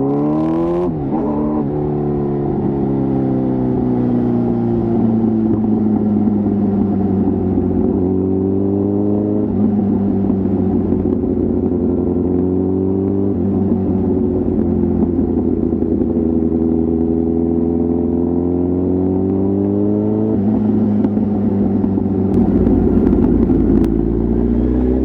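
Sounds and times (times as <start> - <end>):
motorcycle exhaust accelerating: 0.0 - 25.0.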